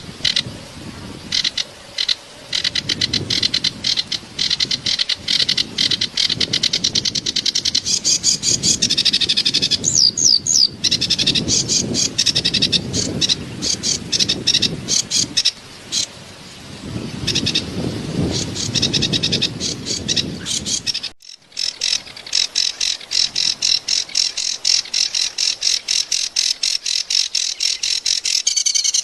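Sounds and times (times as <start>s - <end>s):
reed warbler chattering song: 0.0s - 29.0s.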